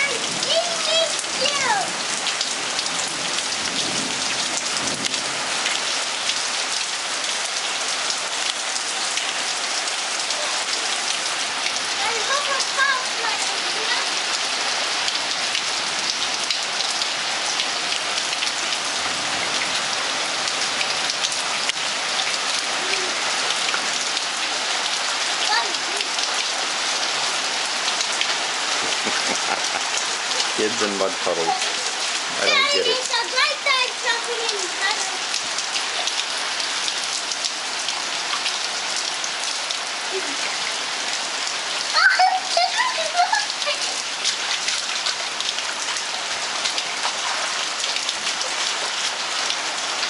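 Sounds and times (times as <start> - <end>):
rain pouring on ground: 0.0 - 50.0.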